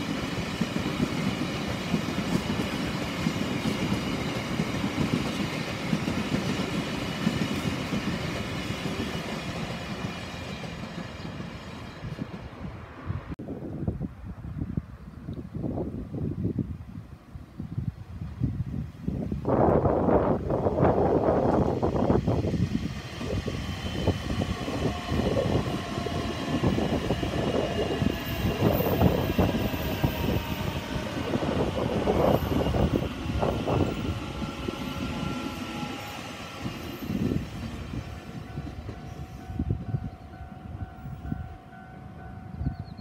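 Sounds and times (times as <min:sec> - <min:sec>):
train wheels rumbling on rail: 0:00.0 - 0:13.4, 0:18.2 - 0:43.0.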